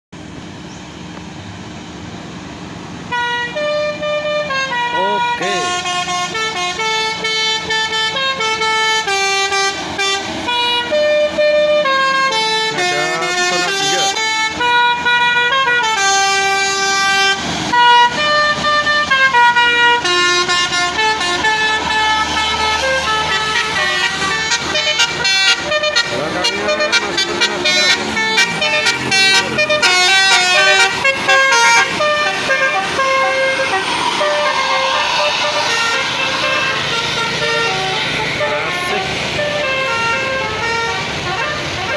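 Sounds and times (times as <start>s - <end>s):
bus horns playing melodic tunes: 3.0s - 41.9s.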